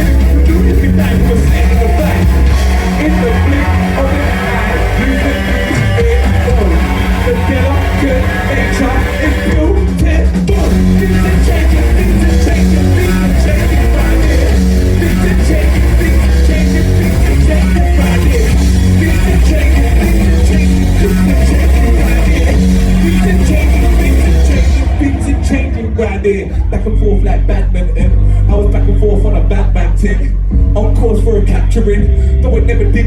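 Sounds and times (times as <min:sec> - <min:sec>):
electric guitar: 0:00.0 - 0:33.0
heavy sustained bass notes: 0:00.0 - 0:33.0
live rock band music: 0:00.0 - 0:33.0.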